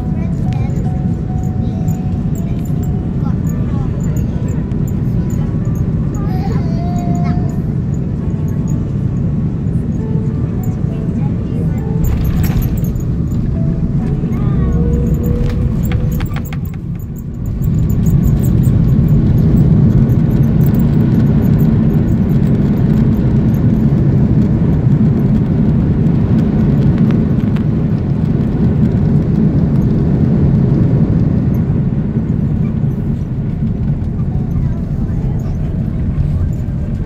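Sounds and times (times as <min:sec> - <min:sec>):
low rumble of engines and runway: 0:00.0 - 0:37.0.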